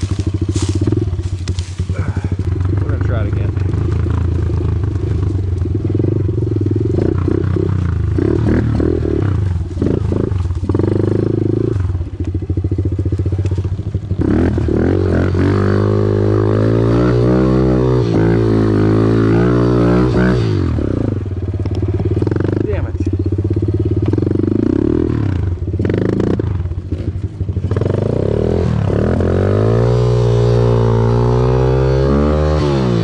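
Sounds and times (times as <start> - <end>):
small motorbike engine revving: 0.0 - 33.0.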